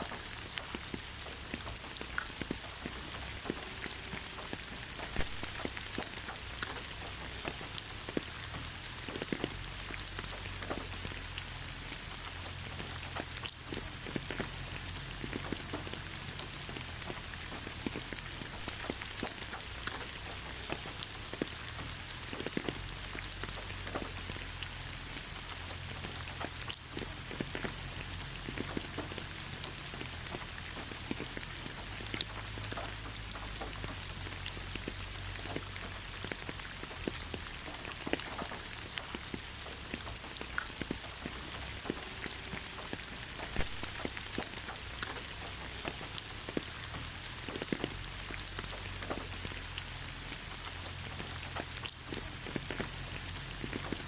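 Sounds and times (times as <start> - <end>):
rain hiss: 0.0 - 54.0
raindrops ticking: 0.0 - 54.0.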